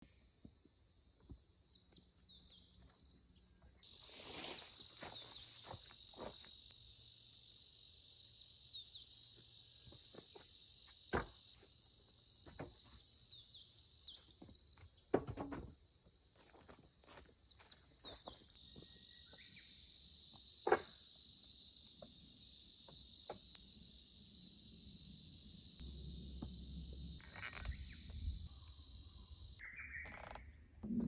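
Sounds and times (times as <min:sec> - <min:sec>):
insects chirping chorus: 0:00.0 - 0:30.4.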